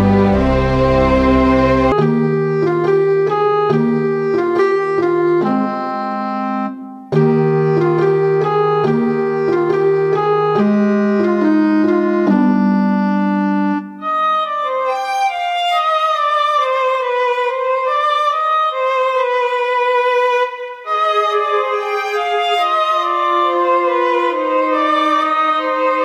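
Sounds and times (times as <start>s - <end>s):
keyboard melody with bass line: 0.0s - 26.0s.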